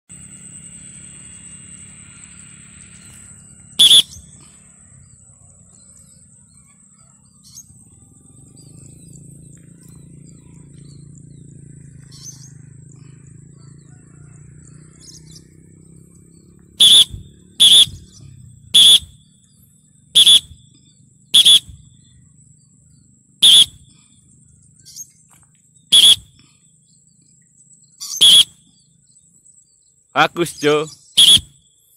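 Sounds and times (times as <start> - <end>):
faint high whine: 0.1 - 31.9.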